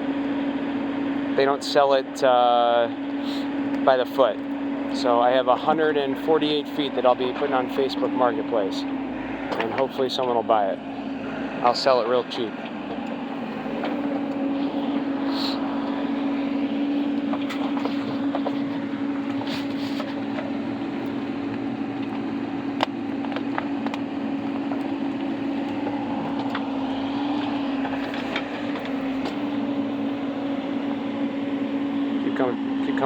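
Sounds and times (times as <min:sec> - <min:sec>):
excavator engine humming: 0:00.0 - 0:33.0.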